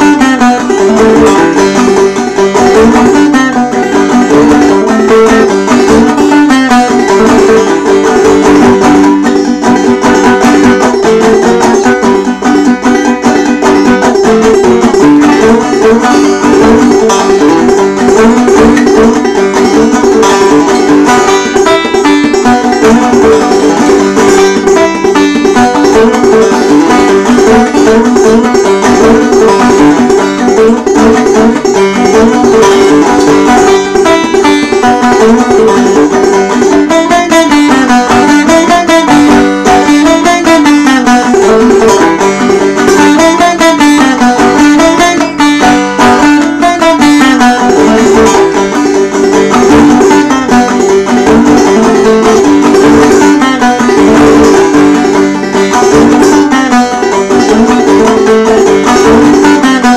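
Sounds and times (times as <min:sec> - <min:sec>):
banjo playing old-time tune: 0:00.0 - 0:59.9.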